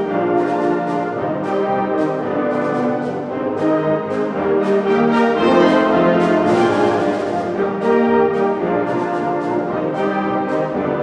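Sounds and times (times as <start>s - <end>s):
concert band playing a march: 0.0s - 11.0s.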